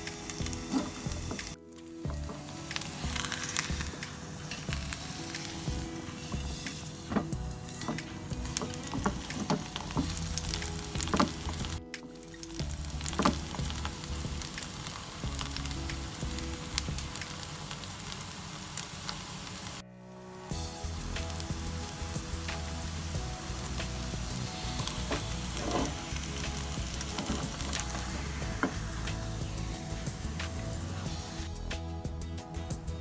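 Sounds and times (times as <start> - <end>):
patty sizzling in oil: 0.0 - 19.8, 20.5 - 31.5.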